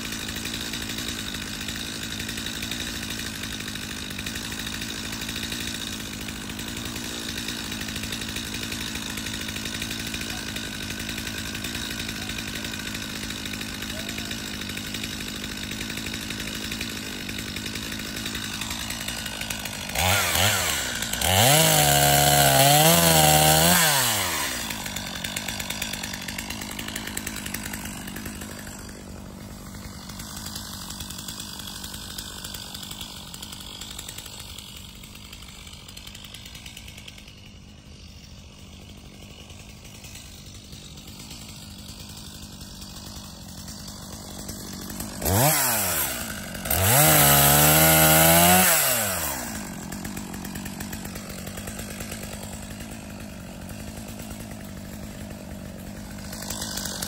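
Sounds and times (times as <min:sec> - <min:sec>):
chainsaw engine revving and idling: 0:00.0 - 0:57.0.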